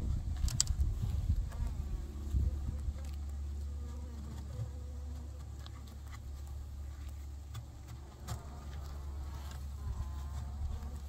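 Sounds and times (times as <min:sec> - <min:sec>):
steady low rumble: 0:00.0 - 0:11.0
bees buzzing: 0:01.1 - 0:11.0.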